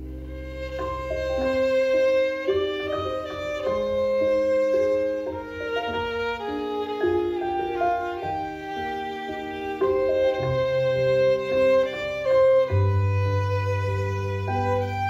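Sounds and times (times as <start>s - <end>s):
bowed violin melody: 0.0s - 15.0s
piano accompaniment: 0.0s - 15.0s.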